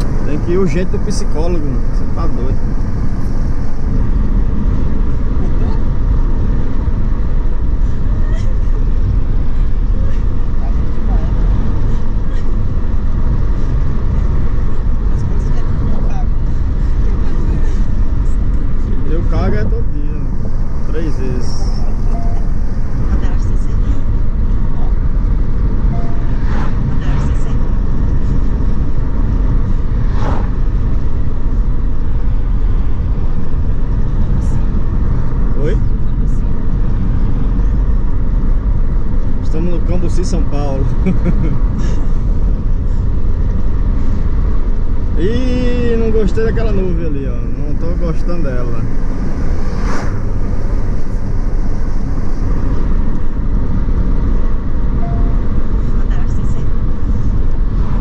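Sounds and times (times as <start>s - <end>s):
road and wind noise in car: 0.0s - 58.0s.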